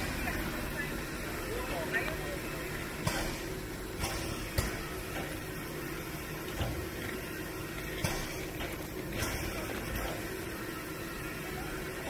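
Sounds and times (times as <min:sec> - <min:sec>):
steam locomotives hissing: 0:00.0 - 0:12.0.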